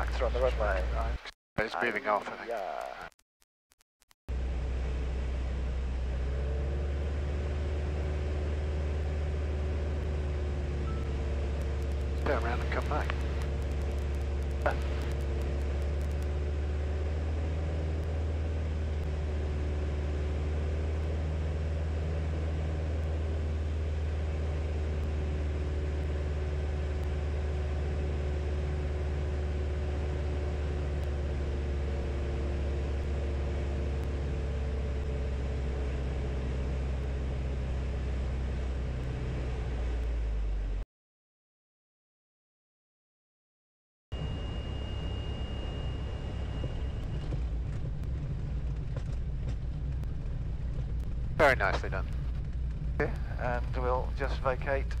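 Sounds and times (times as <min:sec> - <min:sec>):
light aircraft engine drone: 0:04.3 - 0:40.8, 0:44.2 - 0:55.0.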